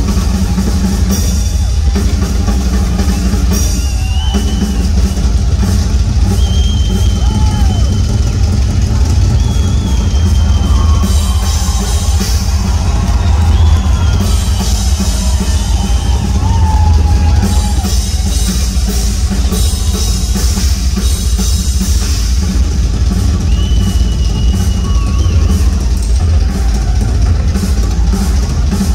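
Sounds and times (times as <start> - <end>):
drum kit solo: 0.0 - 28.9
heavy bass drums: 0.0 - 28.9.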